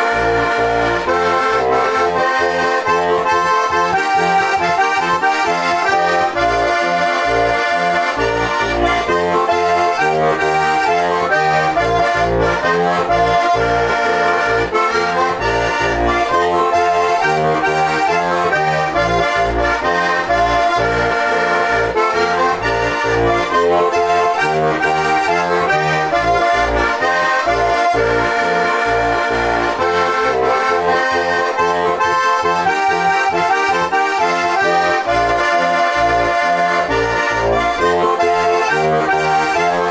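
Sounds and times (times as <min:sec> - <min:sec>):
button accordion folk melody: 0:00.0 - 0:39.9
pulsing bass accompaniment: 0:00.0 - 0:39.9.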